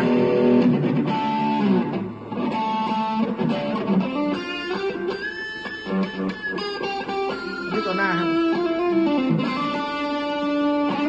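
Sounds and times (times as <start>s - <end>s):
overdriven electric guitar: 0.0s - 11.0s.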